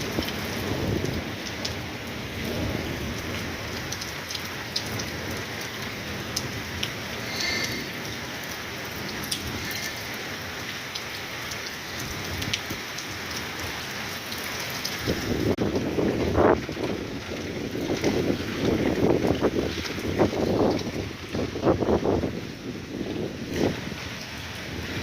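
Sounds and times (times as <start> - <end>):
rain falling: 0.0 - 25.0
raindrops ticking on surface: 0.0 - 25.0.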